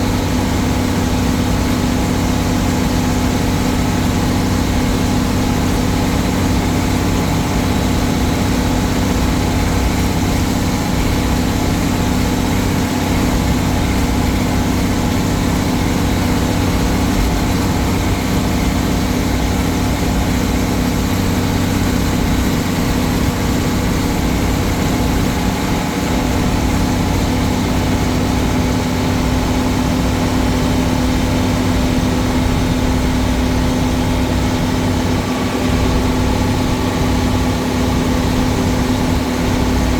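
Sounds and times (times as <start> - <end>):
tractor engine running steadily: 0.0 - 39.9.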